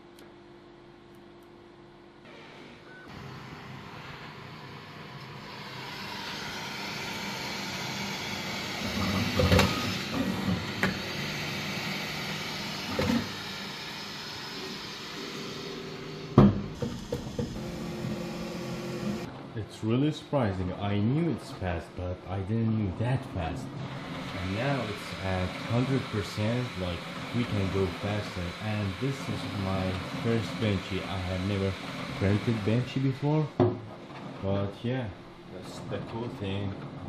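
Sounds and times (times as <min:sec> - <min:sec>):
printer fans and motors whirring: 0:00.0 - 0:37.0.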